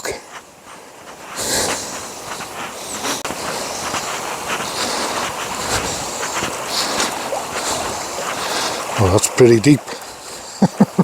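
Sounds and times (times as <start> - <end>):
footsteps crunching on a path: 0.0 - 11.0
river water rushing over a fall: 0.0 - 11.0.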